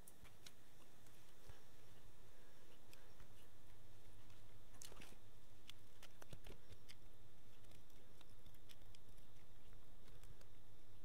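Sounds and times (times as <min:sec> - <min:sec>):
soldering ticks and rustles: 0:00.0 - 0:02.1, 0:02.7 - 0:11.0
low steady hum: 0:00.0 - 0:11.0.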